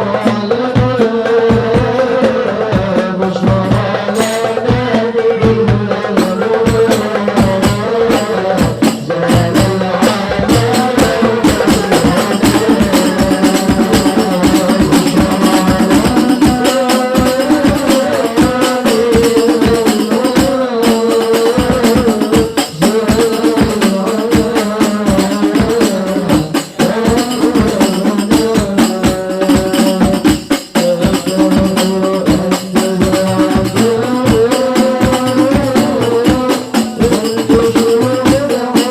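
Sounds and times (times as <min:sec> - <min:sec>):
frame drums with tambourine jingles: 0:00.0 - 0:38.9.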